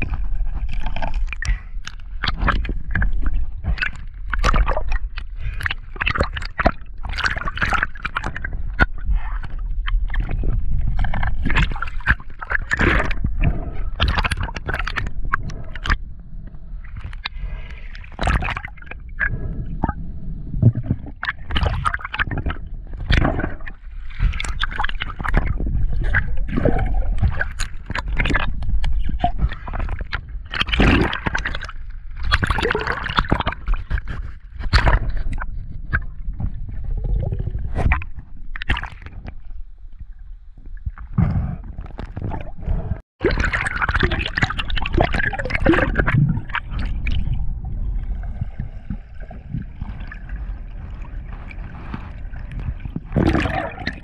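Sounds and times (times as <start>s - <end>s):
water gurgling and sloshing: 0.0s - 54.0s.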